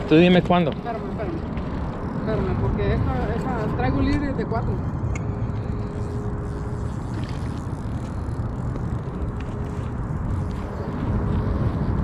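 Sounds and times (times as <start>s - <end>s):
faint hum: 0.0s - 12.0s
low outdoor rumble: 0.0s - 12.0s.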